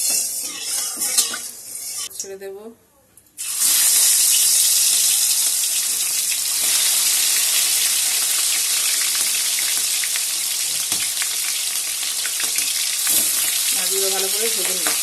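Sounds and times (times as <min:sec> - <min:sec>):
prawns sizzling in hot oil: 0:00.0 - 0:02.1, 0:03.4 - 0:15.0.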